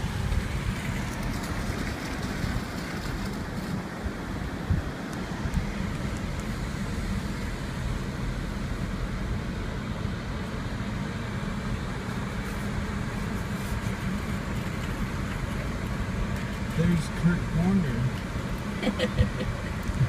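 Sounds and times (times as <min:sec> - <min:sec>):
car driving road noise: 0:00.0 - 0:20.0
faint engine hum: 0:00.0 - 0:20.0.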